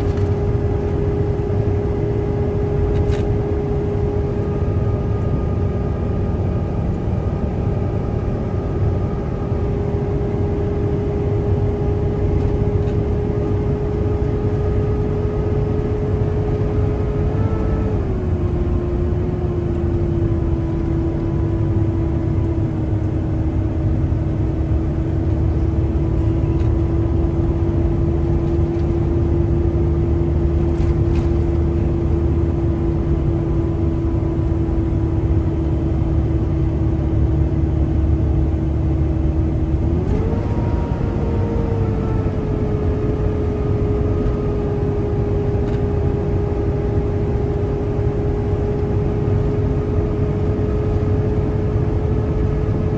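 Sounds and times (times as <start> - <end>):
truck road and engine rumble: 0.0 - 52.9.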